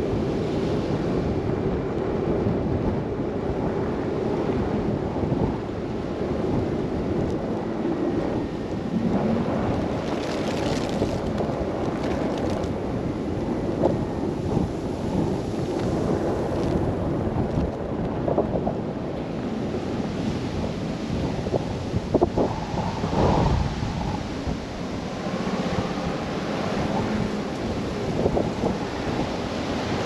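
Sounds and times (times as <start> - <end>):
car driving through blizzard: 0.0 - 30.0.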